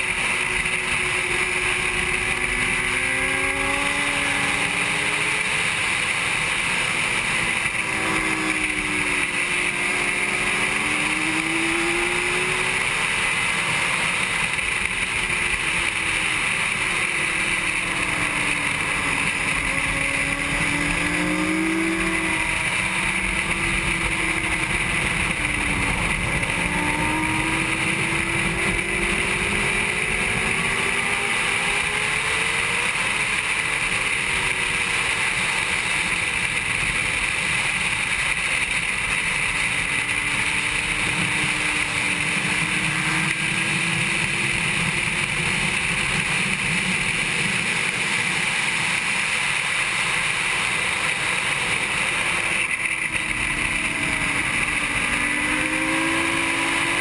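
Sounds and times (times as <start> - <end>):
motorcycle engine at racing speed: 0.0 - 57.0.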